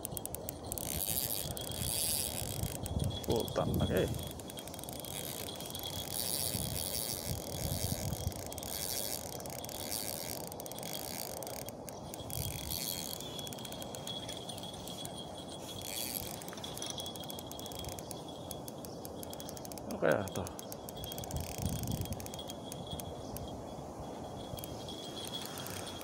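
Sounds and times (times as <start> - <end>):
fishing reel ticking: 0.0 - 26.0.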